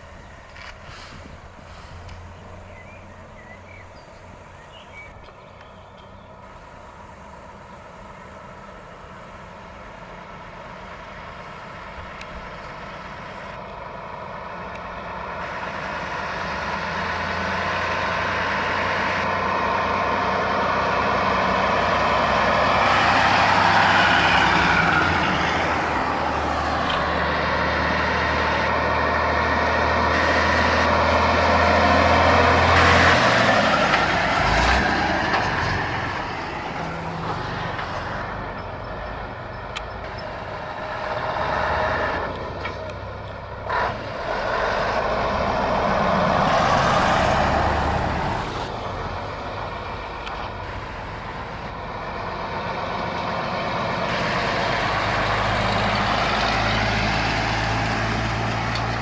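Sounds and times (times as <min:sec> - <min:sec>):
diesel truck engine passing: 0:00.0 - 0:59.0.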